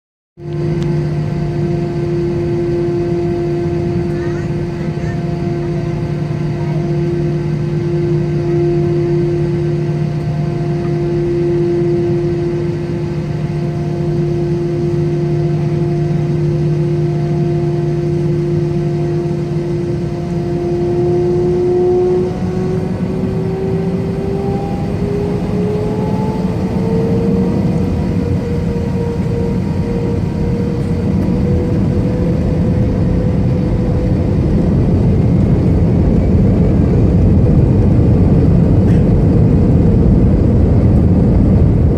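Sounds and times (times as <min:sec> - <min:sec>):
jet engines whining: 0:00.4 - 0:41.9
takeoff roll rumble: 0:00.4 - 0:41.9.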